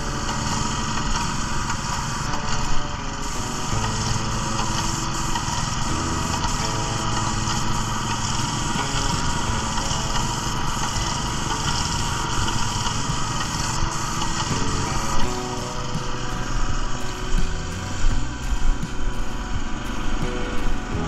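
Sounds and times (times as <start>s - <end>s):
small gasoline engine running: 0.0s - 21.0s
paint spray hissing: 0.1s - 21.0s.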